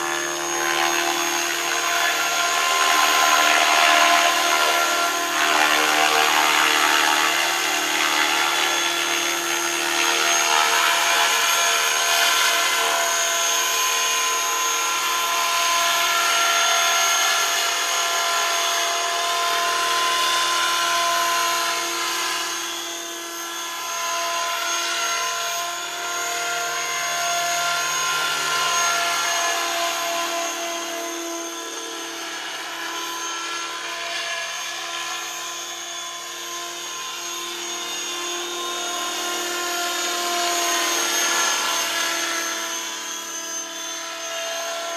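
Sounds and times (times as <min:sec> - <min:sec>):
model helicopter whining: 0:00.0 - 0:44.9.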